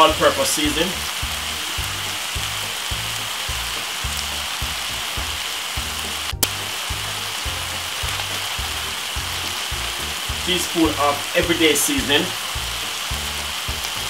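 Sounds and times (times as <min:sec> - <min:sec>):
background music with low beat: 0:00.0 - 0:14.0
food sizzling in a frying pan: 0:00.0 - 0:14.0.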